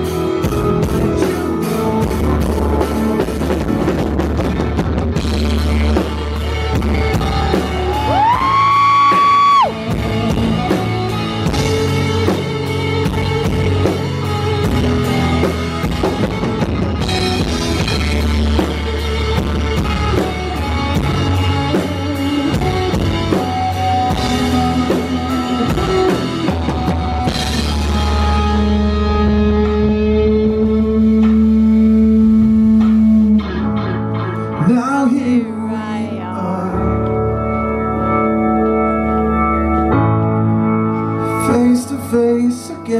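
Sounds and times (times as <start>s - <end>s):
drum kit: 0.0s - 35.0s
bass guitar: 0.0s - 42.9s
electric guitar lead: 0.0s - 42.9s.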